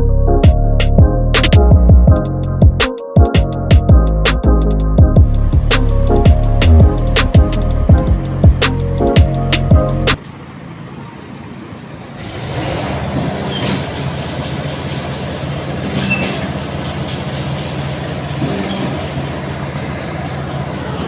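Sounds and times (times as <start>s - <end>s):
engine running steadily: 3.9s - 21.0s.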